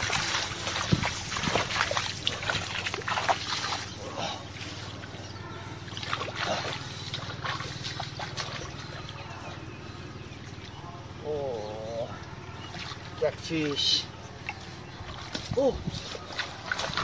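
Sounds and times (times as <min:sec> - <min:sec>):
low steady hum: 0:00.0 - 0:17.0
muddy water splashing: 0:00.0 - 0:17.0.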